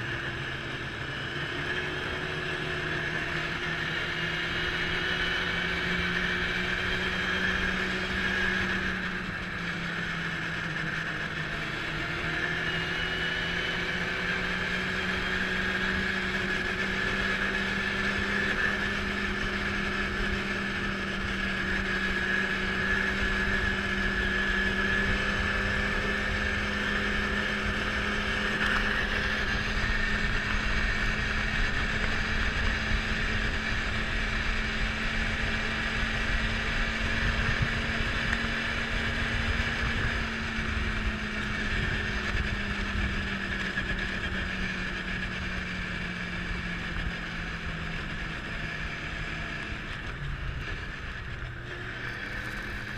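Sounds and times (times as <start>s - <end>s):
snowmobile engine droning: 0.0s - 52.9s.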